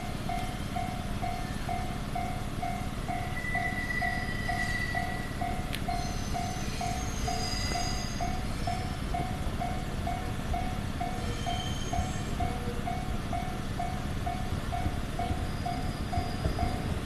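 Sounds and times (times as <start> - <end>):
level-crossing warning bell: 0.0 - 17.0
train rumbling: 0.0 - 17.0.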